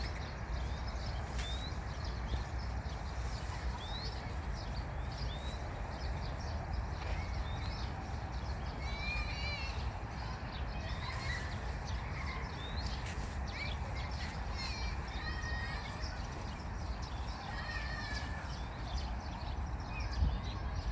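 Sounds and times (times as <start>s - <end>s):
songbirds chirping and warbling: 0.0s - 20.9s.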